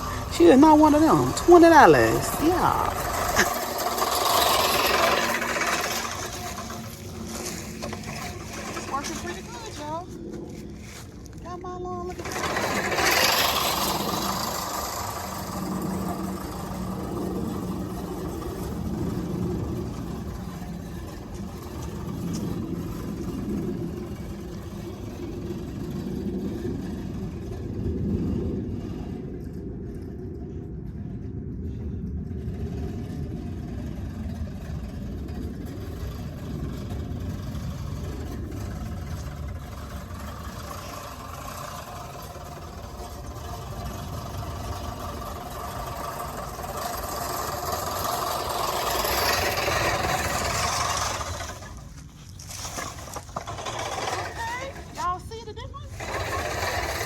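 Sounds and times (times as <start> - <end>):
reel mower whirring and clattering: 0.0 - 57.0.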